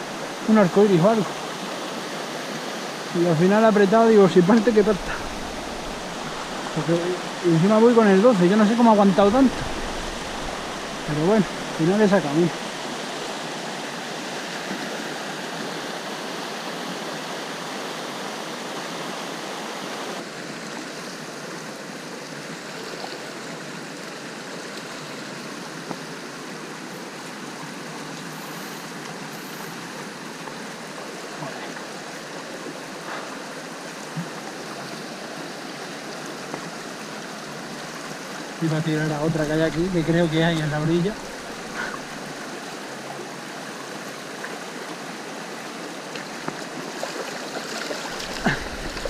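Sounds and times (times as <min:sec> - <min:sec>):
river water flowing: 0:00.0 - 0:49.0.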